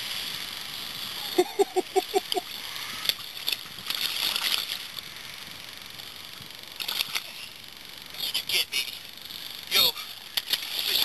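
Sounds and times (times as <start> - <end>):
water splashing and sloshing: 0.0 - 7.6, 9.3 - 11.0.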